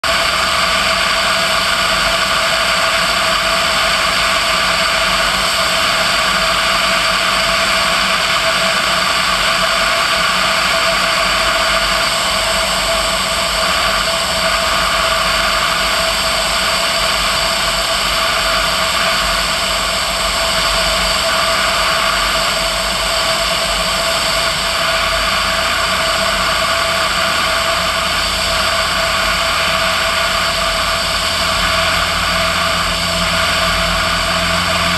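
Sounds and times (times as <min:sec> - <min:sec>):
aircraft engine and propeller drone: 0:00.0 - 0:34.9
rush of airflow: 0:00.0 - 0:34.9.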